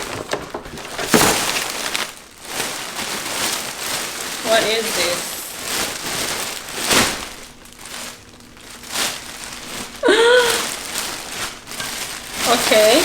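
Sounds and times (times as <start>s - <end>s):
gift packaging crinkling: 0.0s - 13.0s.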